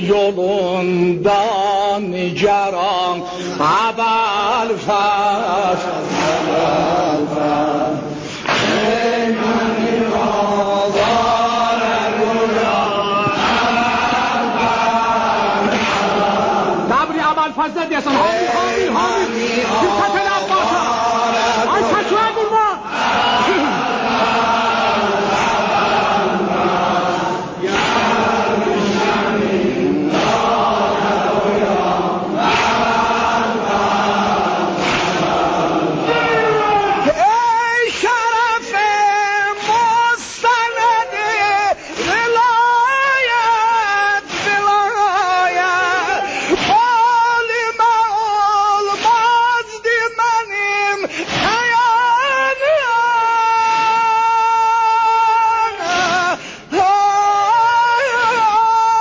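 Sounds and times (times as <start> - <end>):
person chanting mourning song: 0.0 - 59.0.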